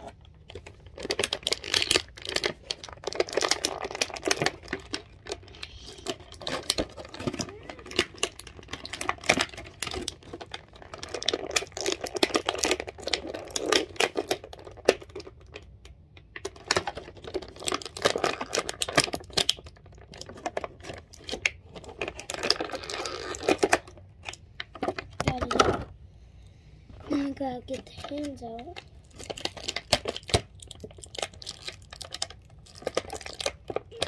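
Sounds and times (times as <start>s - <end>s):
plastic bag crinkling: 0.0s - 15.7s, 16.4s - 25.6s, 27.0s - 34.0s.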